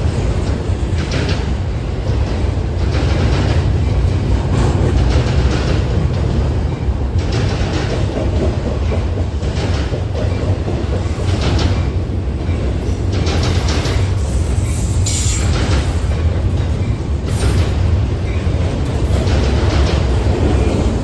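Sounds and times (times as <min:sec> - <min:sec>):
train passing with low rumble: 0:00.0 - 0:21.0
wheels clacking over rail joints: 0:00.0 - 0:21.0.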